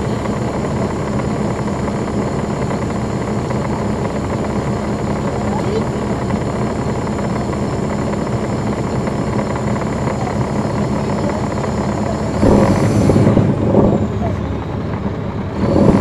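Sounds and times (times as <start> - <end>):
bus diesel engine running: 0.0 - 16.0
rush of noise: 0.0 - 16.0.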